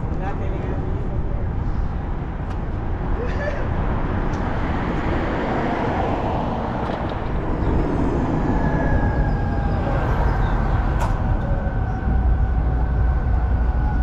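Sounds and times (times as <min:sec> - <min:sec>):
car driving road noise: 0:00.0 - 0:14.0.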